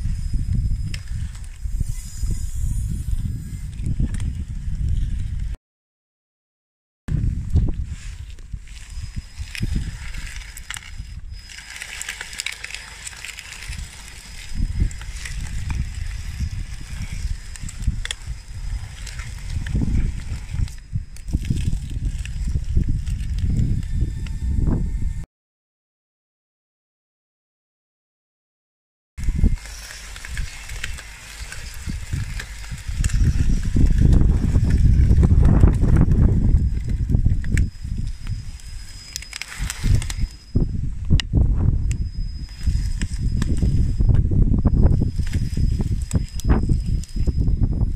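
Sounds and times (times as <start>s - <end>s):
toy bulldozer tracks crunching gravel: 0.1s - 5.5s, 7.2s - 24.6s, 29.2s - 47.9s.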